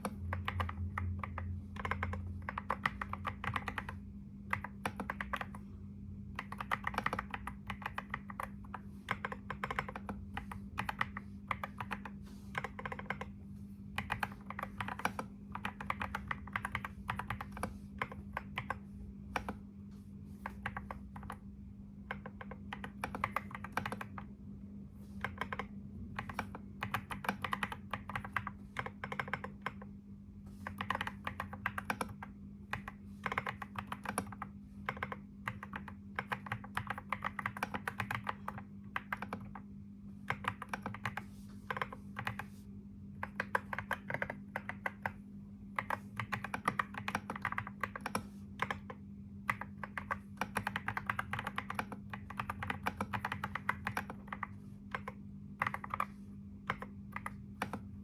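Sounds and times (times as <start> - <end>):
keyboard typing clicks: 0.0 - 5.7, 6.3 - 19.6, 20.4 - 24.3, 25.2 - 30.0, 30.6 - 42.5, 43.2 - 58.0
steady low hum: 0.0 - 58.0.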